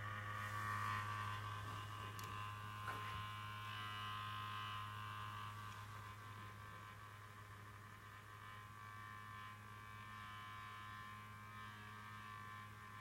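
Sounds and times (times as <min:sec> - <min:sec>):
computer hum: 0:00.0 - 0:13.0.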